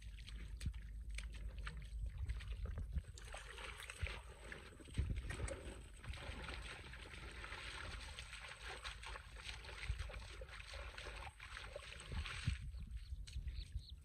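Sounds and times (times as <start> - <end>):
muddy water splashing: 0.0 - 14.0.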